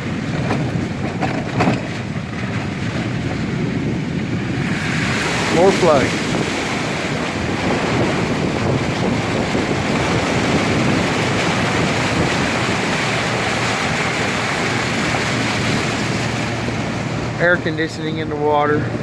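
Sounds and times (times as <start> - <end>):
floodwater rushing around vehicle: 0.0 - 19.0.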